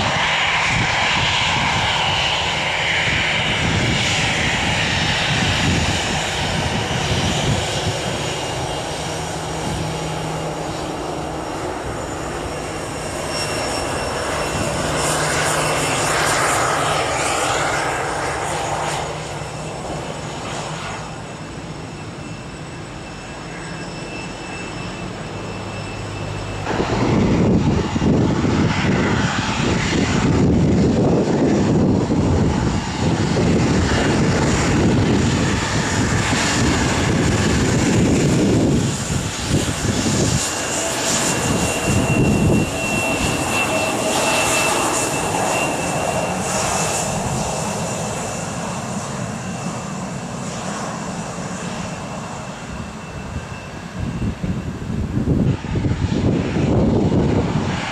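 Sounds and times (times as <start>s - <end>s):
high engine whine: 0.0s - 57.9s
jet engines roaring past: 0.0s - 57.9s.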